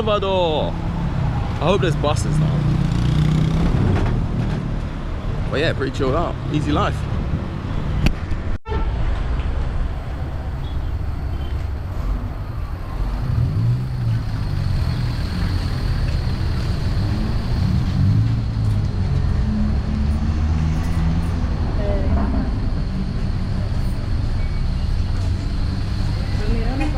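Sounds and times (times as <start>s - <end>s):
road traffic: 0.0s - 26.9s
vehicle engine rumbling: 0.0s - 26.9s.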